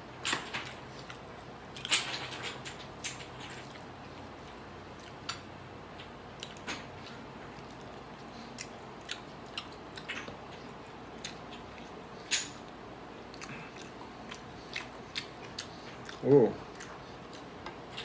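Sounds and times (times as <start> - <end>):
man chewing food: 0.0 - 18.0.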